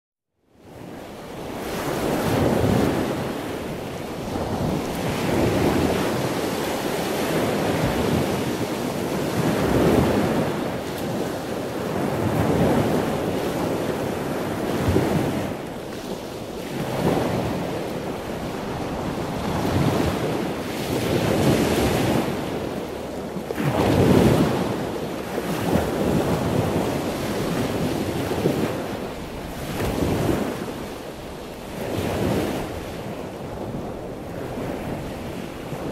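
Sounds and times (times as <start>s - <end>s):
small waves washing on shore: 0.5s - 35.9s
wind buffeting microphone: 0.6s - 35.9s.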